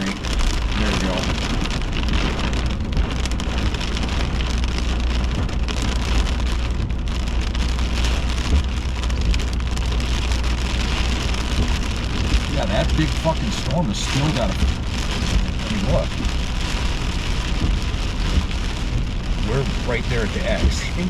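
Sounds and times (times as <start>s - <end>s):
low rumble: 0.0s - 21.0s
rain on a car: 0.0s - 21.0s.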